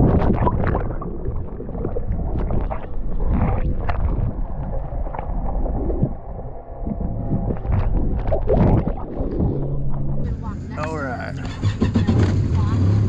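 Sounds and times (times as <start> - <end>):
muffled underwater water sloshing: 0.0 - 10.8.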